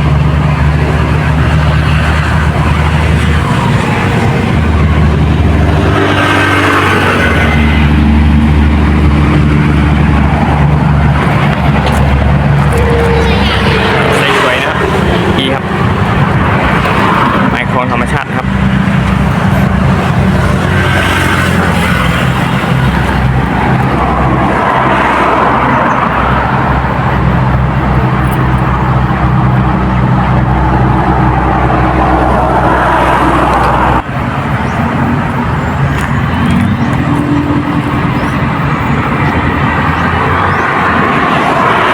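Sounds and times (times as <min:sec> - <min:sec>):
engine humming: 0:00.0 - 0:41.9.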